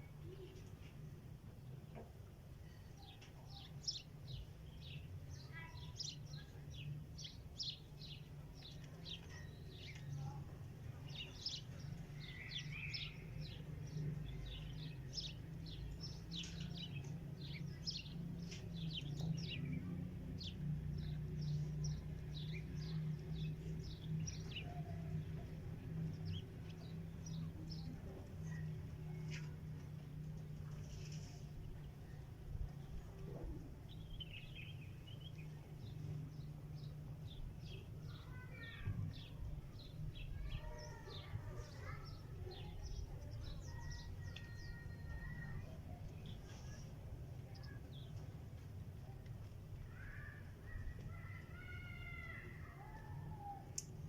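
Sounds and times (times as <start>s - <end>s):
small songbirds chirping: 1.6s - 54.0s.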